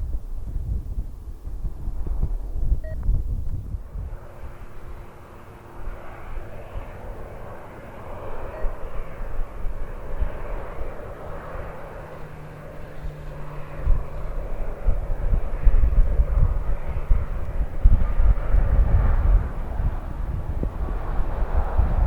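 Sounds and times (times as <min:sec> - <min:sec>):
jet engines landing: 0:00.0 - 0:22.0.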